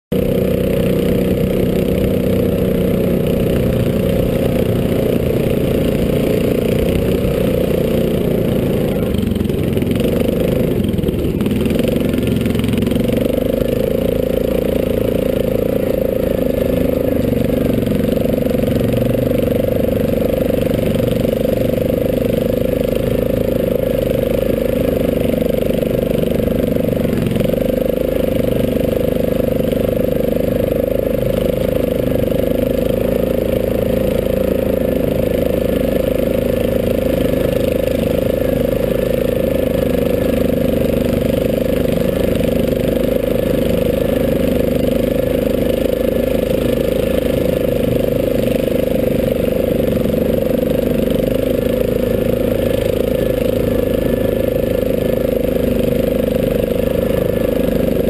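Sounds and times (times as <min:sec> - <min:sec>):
atv engine running: 0:00.1 - 0:58.0.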